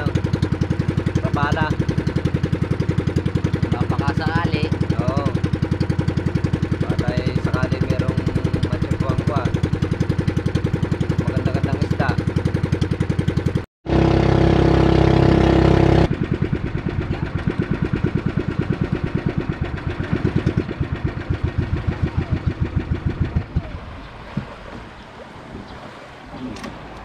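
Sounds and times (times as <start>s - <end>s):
boat engine putter: 0.0s - 27.0s.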